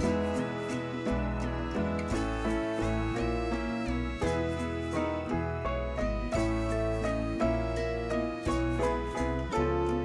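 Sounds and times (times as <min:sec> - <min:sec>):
plucked instrumental tune: 0:00.0 - 0:10.0
steady bass: 0:00.0 - 0:10.0.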